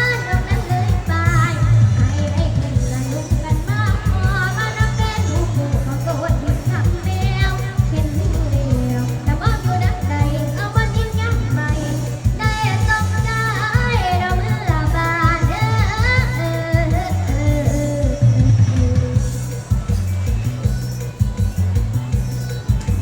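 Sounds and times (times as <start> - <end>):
girl singing with vibrato: 0.0 - 19.4
backing track with heavy bass beat: 0.0 - 23.0.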